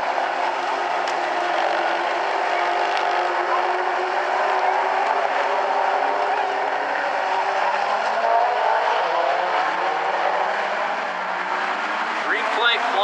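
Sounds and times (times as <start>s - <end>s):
stock car engines racing: 0.0s - 13.0s.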